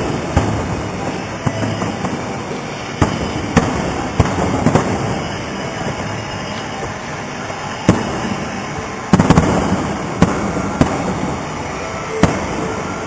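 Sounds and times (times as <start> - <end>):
fireworks bangs: 0.0 - 13.0
rumbling background noise: 0.0 - 13.0.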